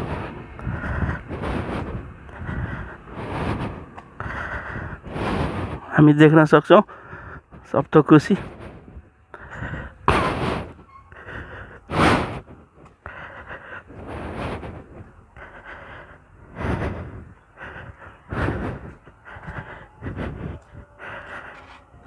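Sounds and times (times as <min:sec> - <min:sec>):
breathy air on microphone: 0:00.0 - 0:06.0, 0:08.4 - 0:22.0.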